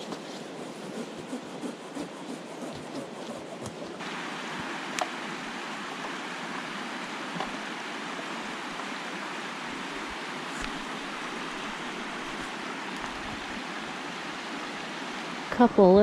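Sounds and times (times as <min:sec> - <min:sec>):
water running over rocks: 0:00.1 - 0:16.0.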